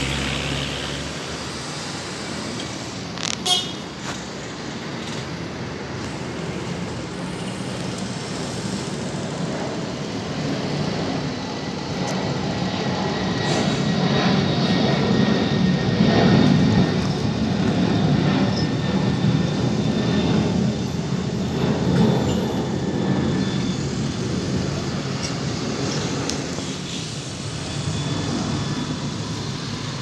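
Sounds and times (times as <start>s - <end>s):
jet engines passing overhead: 0.0s - 30.0s.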